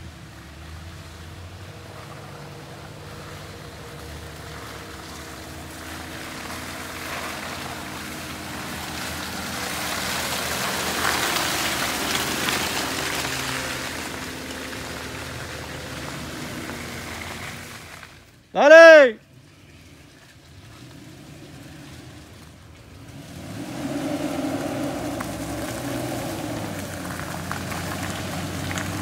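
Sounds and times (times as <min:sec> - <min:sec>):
mud and water splashing: 0:00.0 - 0:18.5, 0:19.3 - 0:29.0
off-road vehicle engine running: 0:00.0 - 0:29.0.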